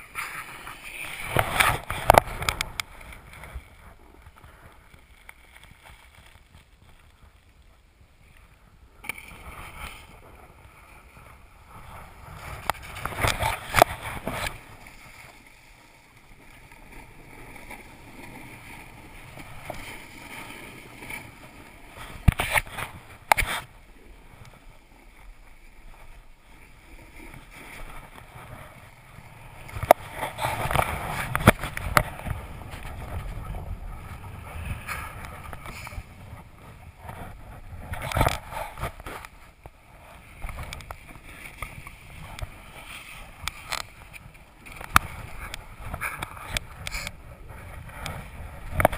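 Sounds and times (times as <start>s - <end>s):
snowboards scraping over snow: 0.0s - 48.9s.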